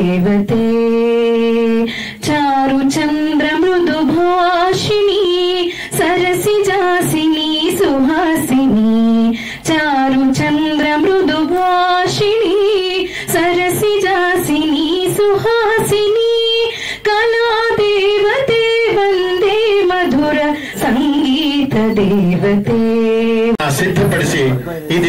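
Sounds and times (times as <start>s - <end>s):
woman singing into a microphone: 0.0s - 23.6s.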